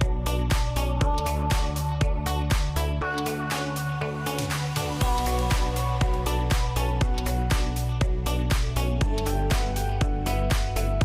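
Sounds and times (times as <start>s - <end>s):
electronic dance music: 0.0s - 11.0s
heavy bass line: 0.0s - 11.0s.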